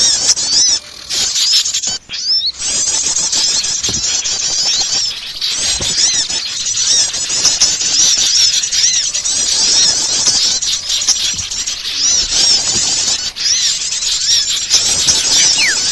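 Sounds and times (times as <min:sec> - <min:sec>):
small songbirds chattering: 0:00.0 - 0:15.9.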